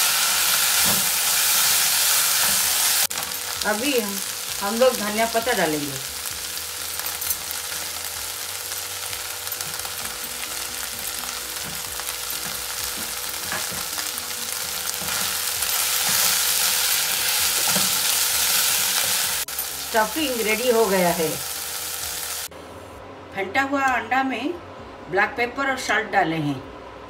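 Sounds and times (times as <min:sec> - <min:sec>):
vegetables sizzling in a wok: 0:00.0 - 0:22.5.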